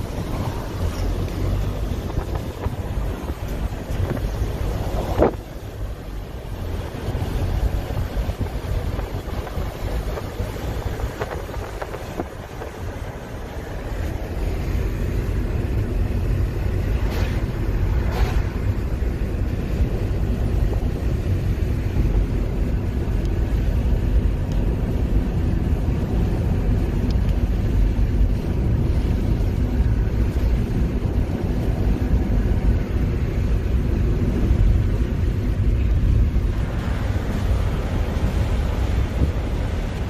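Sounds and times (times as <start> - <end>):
car road and wind noise: 0.0 - 40.0.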